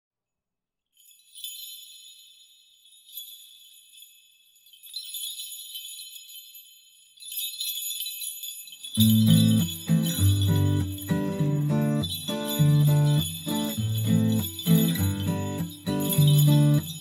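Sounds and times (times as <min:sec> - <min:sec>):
small bells jingling: 0:01.0 - 0:17.0.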